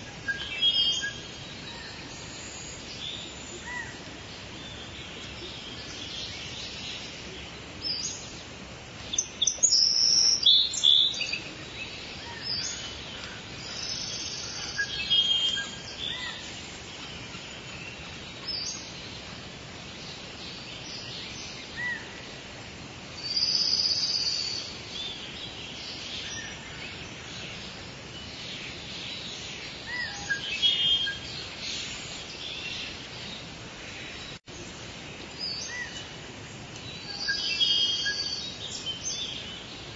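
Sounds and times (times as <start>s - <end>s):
rain falling: 0.0s - 39.9s
songbirds chirping: 0.0s - 39.9s.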